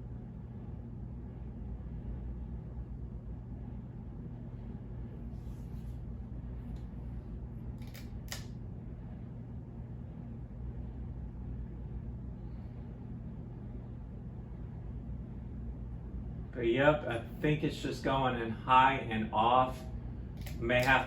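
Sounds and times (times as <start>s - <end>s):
ceiling fan humming: 0.0s - 21.0s.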